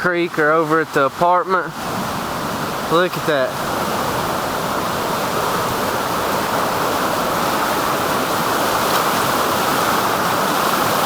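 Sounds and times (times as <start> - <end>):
fast water rushing: 0.0 - 11.0.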